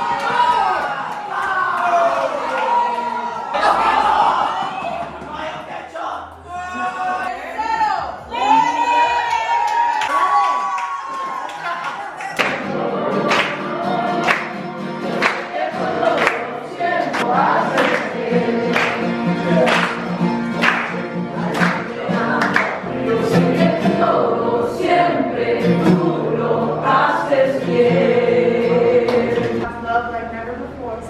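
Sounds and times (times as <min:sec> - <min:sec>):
group of voices singing: 0:00.0 - 0:10.2, 0:11.2 - 0:29.7.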